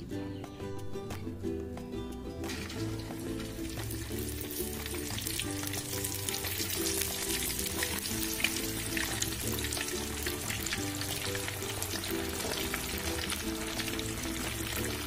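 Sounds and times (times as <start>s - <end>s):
food sizzling in hot oil: 2.5s - 15.0s.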